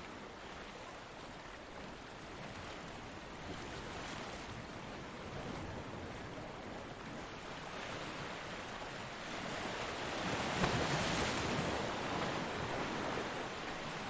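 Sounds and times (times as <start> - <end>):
waves washing on a beach: 0.0 - 14.0.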